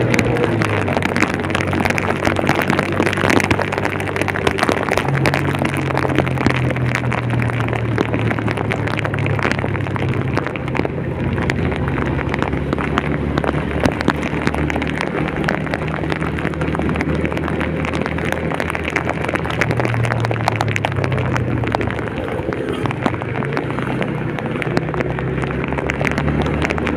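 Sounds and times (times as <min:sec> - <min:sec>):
heavy rain patter: 0:00.0 - 0:26.9
vehicle engine running: 0:00.0 - 0:26.9.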